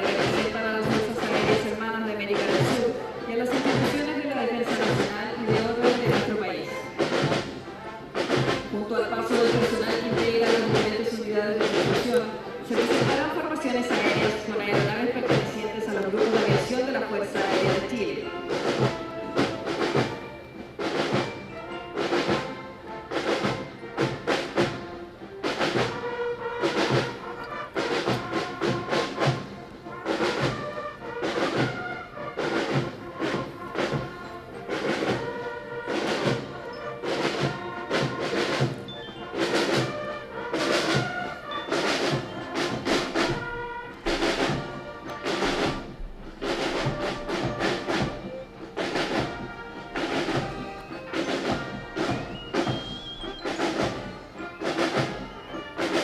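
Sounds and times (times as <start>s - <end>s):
brass band playing a march: 0.0s - 56.0s
steady drum beat: 0.0s - 56.0s.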